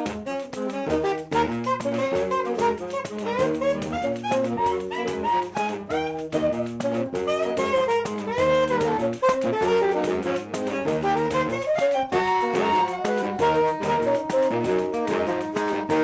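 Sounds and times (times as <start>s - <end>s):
frame drum beating rhythm: 0.0s - 16.0s
saxophone quartet playing: 0.0s - 16.0s.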